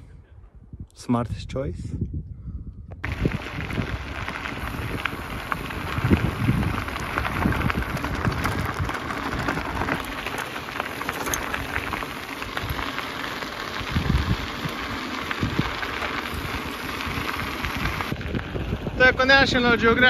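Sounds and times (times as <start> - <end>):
wind rumble on microphone: 0.0 - 20.0
bike tyres rolling on gravel: 3.0 - 20.0.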